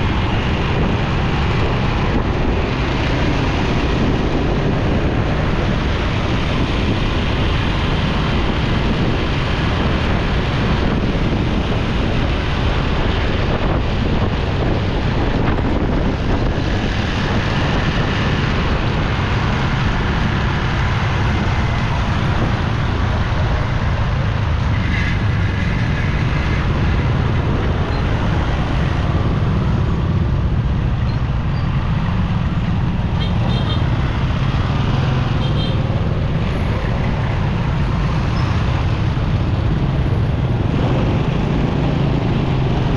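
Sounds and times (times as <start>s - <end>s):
road traffic rumble: 0.0s - 42.9s
wind noise: 0.0s - 42.9s.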